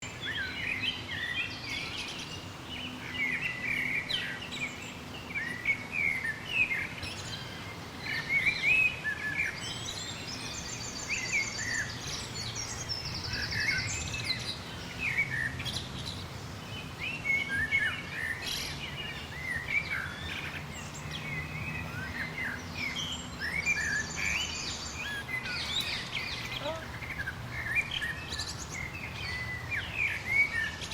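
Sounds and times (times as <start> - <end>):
songbirds chorus: 0.0 - 30.9.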